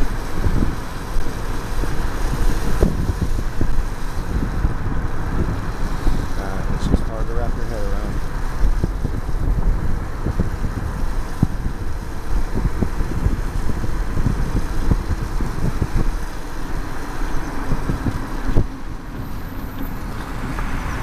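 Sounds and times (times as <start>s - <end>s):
car engine: 0.0s - 21.0s
tyres on wet pavement: 0.0s - 21.0s
wind buffeting microphone: 0.0s - 21.0s.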